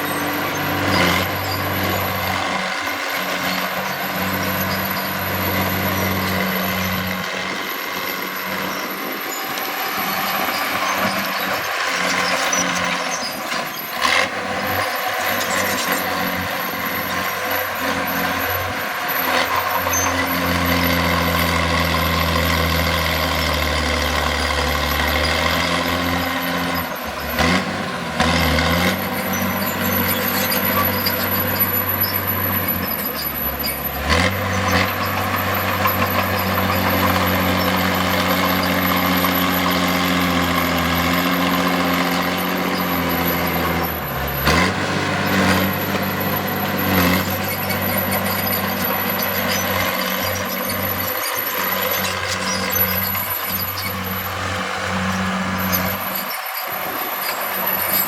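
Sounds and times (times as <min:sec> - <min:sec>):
heavy diesel machinery engines: 0:00.0 - 0:58.0.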